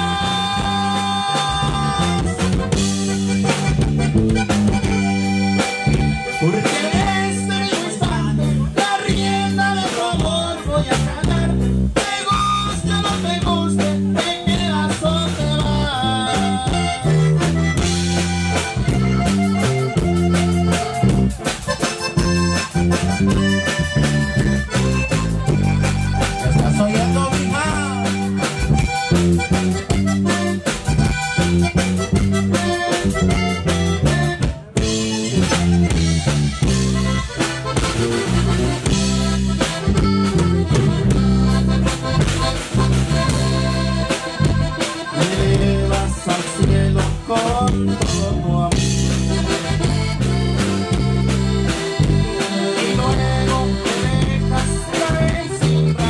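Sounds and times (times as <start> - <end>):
accordion melody: 0.0 - 56.0
drum kit: 0.0 - 56.0
electric bass: 0.0 - 56.0
strummed guitar: 0.0 - 56.0.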